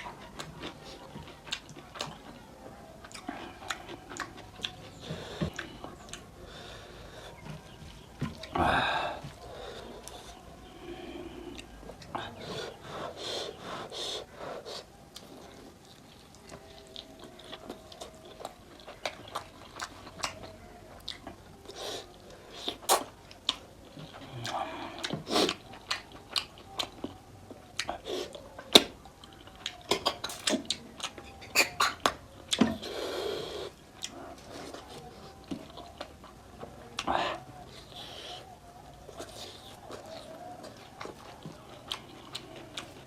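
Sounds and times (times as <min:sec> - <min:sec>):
wet chewing and lip smacks: 0:00.0 - 0:06.3, 0:13.9 - 0:32.9, 0:33.6 - 0:43.0.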